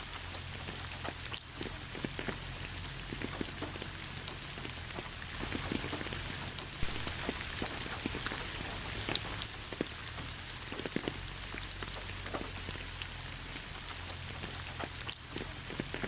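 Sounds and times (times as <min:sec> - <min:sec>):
raindrops ticking: 0:00.0 - 0:16.0
steady rain hiss: 0:00.0 - 0:16.0.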